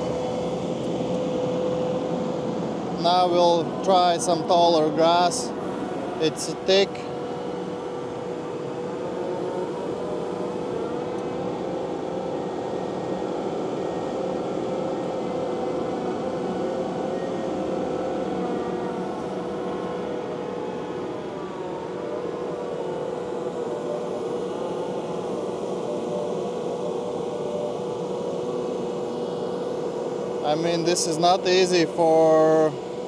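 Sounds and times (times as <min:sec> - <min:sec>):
constant hydraulic whine: 0:00.0 - 0:33.0
loader engine and hydraulic drone: 0:00.0 - 0:33.0.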